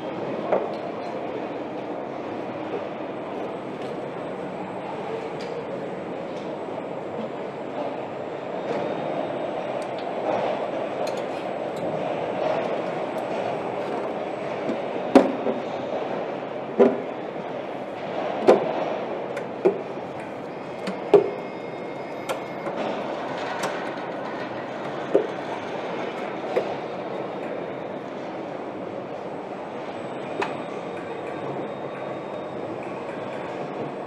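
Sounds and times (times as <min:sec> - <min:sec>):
factory hum: 0:00.0 - 0:34.0.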